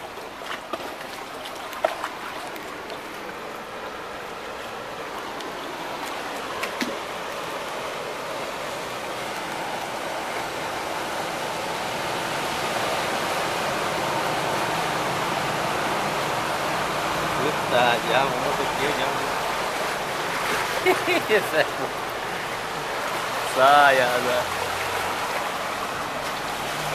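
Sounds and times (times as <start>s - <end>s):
floodwater rushing and sloshing: 0.0s - 26.9s.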